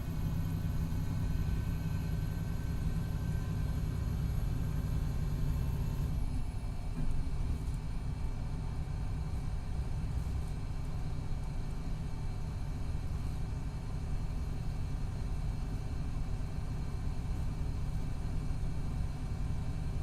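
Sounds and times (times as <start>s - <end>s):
bus engine rumble: 0.0s - 20.0s.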